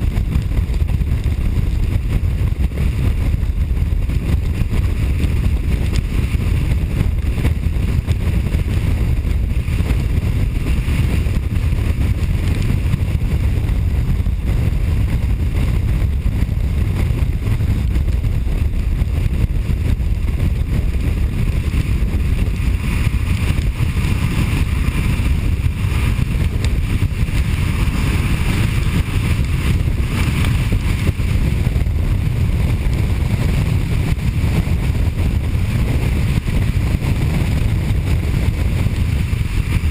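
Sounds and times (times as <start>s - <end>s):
road and wind noise from vehicle: 0.0s - 39.9s.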